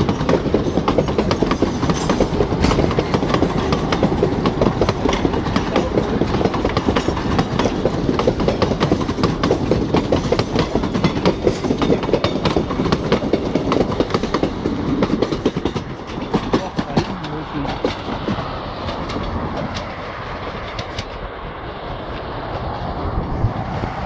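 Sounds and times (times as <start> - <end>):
train wheels clattering over rail joints: 0.0 - 21.4
train rumble: 0.0 - 24.0.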